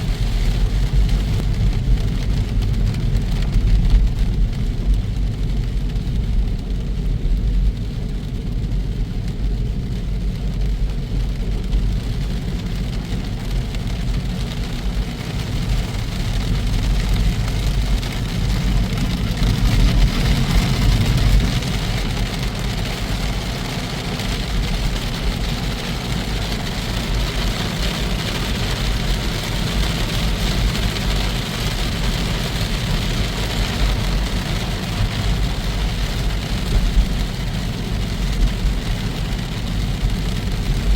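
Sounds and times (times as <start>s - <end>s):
road noise: 0.0s - 40.9s.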